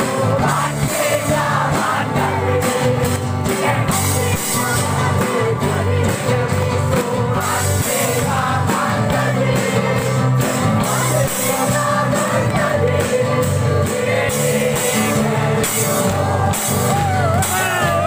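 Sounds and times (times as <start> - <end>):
loud music with singing: 0.0 - 18.0.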